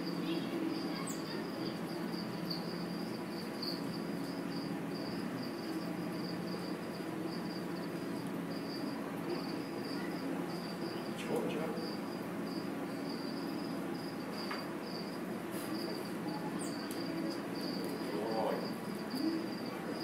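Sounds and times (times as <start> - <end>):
insect chirping: 0.0 - 20.0.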